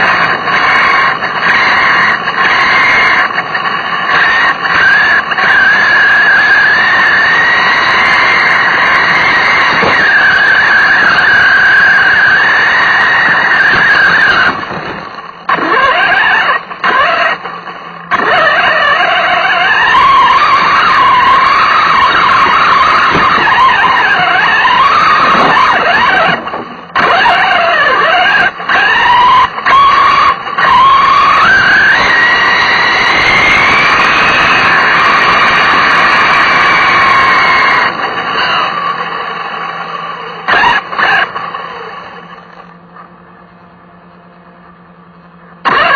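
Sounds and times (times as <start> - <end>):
small engine revving with whine: 0.0 - 45.9.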